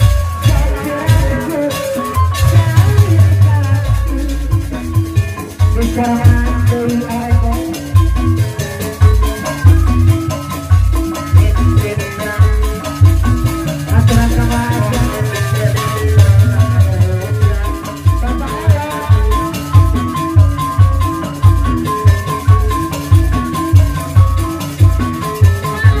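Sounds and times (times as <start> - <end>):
hand drums beating: 0.0 - 26.0
metallophone melody: 0.0 - 26.0.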